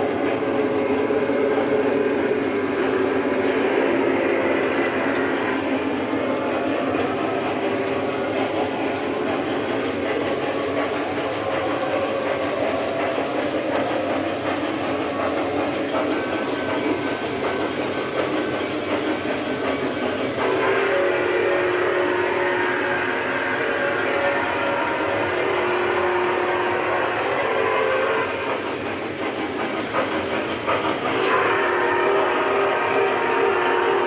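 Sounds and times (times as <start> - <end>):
model train wheels rumbling on rail: 0.0 - 34.0.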